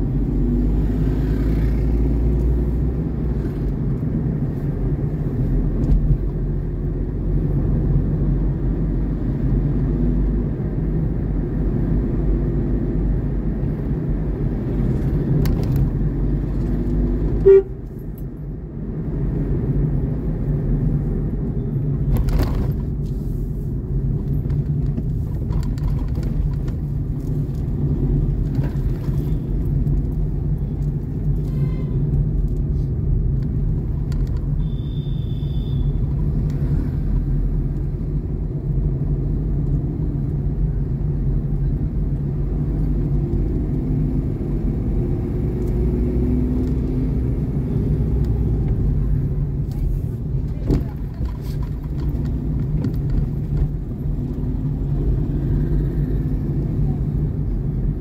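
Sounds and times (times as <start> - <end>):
road vehicle rumble: 0.0 - 58.0.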